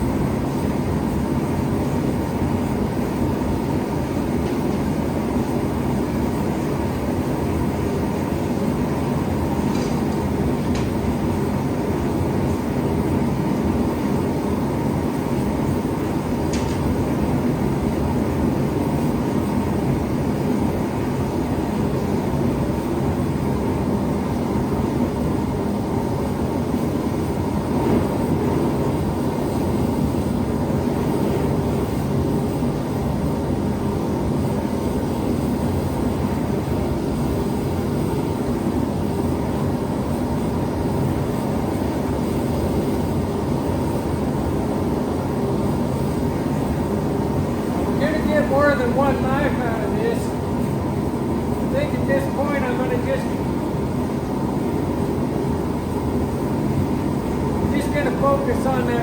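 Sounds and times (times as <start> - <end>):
gas forge burners rushing: 0.0 - 59.0.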